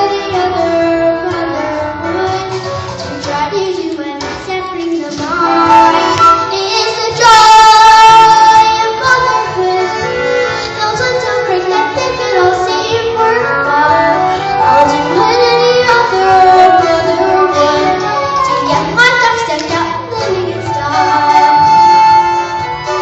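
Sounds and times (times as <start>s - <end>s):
girl singing: 0.0s - 22.1s.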